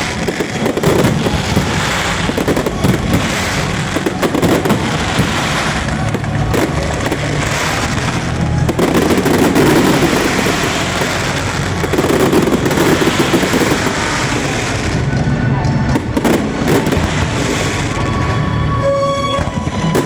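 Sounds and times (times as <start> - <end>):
fireworks cracking: 0.0 - 20.0.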